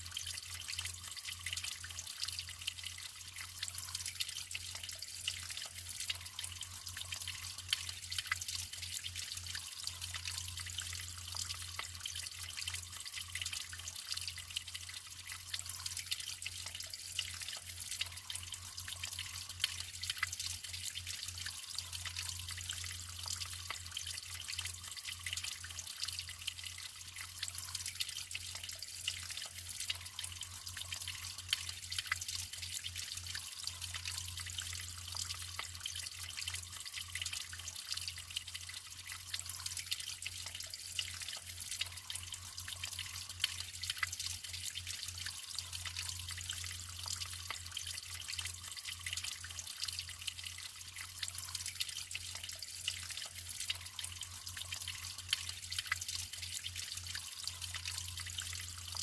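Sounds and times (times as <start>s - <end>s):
running water trickling: 0.0s - 59.0s
water drips: 0.0s - 59.0s.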